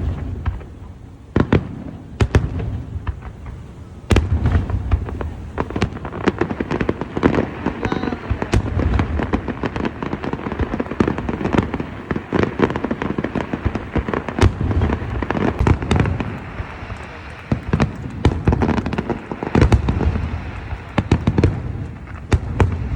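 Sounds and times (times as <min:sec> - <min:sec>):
deep firework booms: 0:00.0 - 0:22.9
fireworks bangs and crackles: 0:00.0 - 0:22.9.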